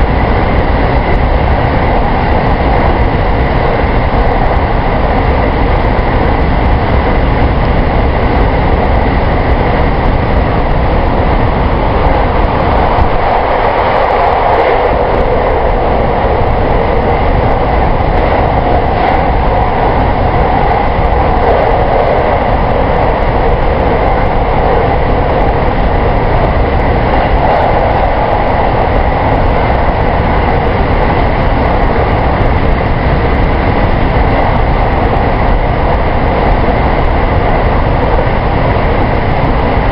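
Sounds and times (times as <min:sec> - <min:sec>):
train wheels on rail: 0:00.0 - 0:39.9.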